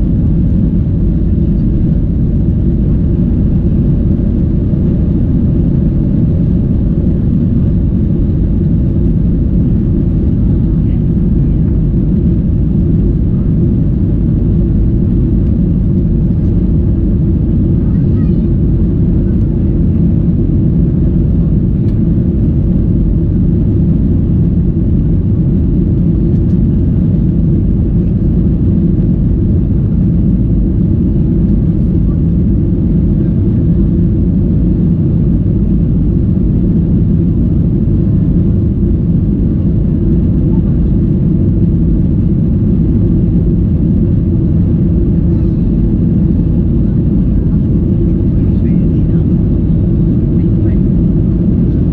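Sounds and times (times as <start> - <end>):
airliner low rumble: 0.0 - 51.9.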